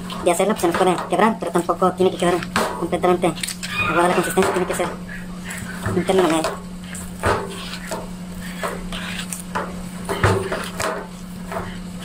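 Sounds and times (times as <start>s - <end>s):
dough squelching while kneaded: 0.0s - 12.0s.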